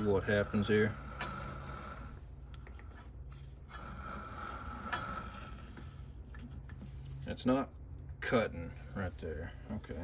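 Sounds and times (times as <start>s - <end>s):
steady low machine hum: 0.0s - 10.0s.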